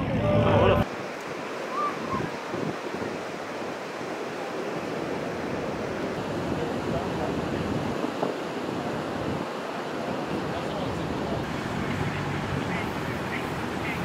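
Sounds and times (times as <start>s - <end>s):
wind noise on microphone: 0.0s - 11.5s
surf washing: 0.0s - 14.0s.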